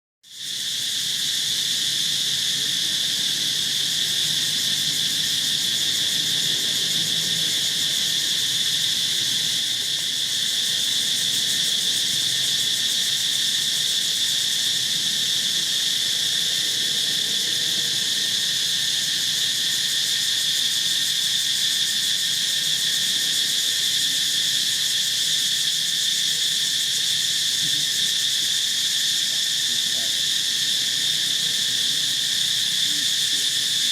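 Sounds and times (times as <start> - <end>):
insect chorus drone: 0.3 - 33.9.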